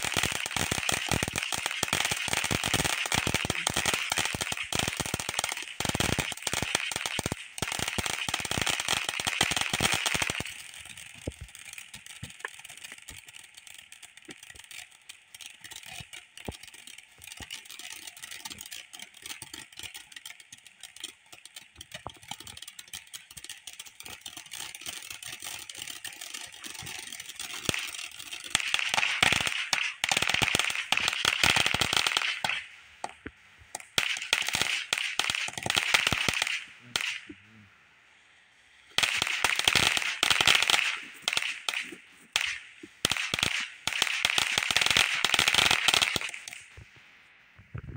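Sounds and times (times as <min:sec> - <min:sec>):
firework fountain crackling: 0:00.0 - 0:47.9.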